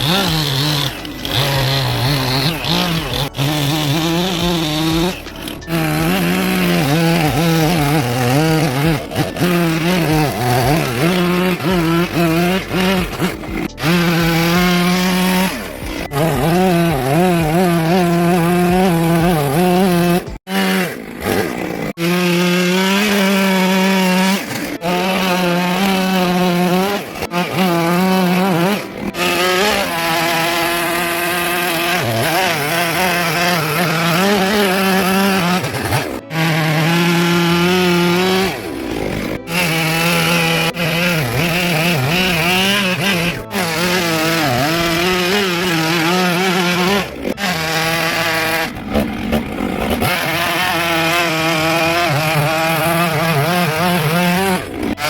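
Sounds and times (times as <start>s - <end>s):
chainsaw carving wood: 0.0s - 55.0s.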